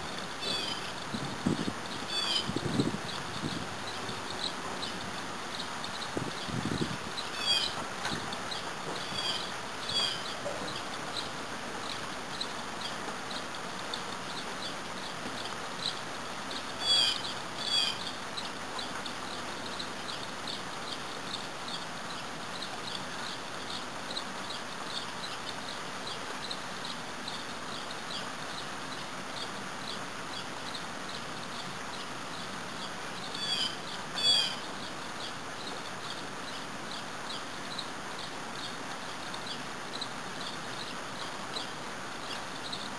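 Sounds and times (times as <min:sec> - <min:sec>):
light rain hissing: 0:00.0 - 0:42.9.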